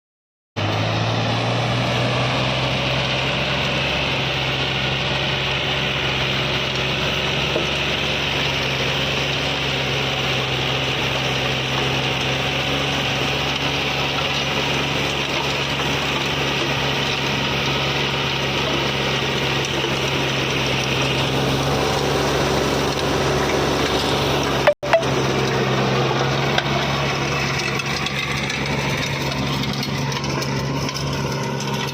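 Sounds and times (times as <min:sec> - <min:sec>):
tractor diesel engine running: 0:00.6 - 0:31.9.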